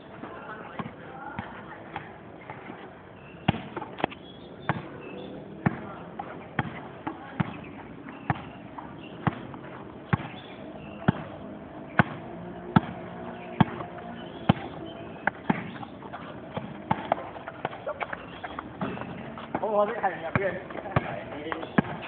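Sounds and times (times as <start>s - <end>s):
basketball bouncing: 3.4s - 5.0s, 5.6s - 22.0s.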